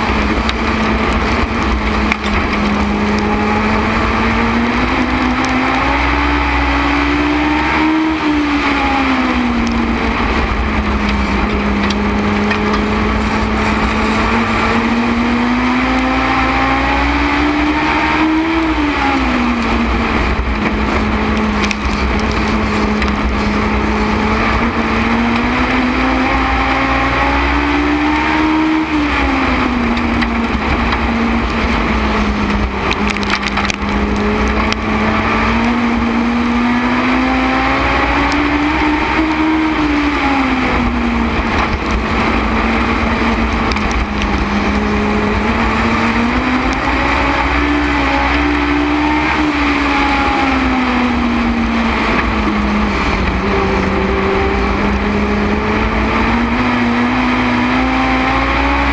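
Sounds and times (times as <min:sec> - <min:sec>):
race car engine at speed: 0:00.0 - 0:58.9.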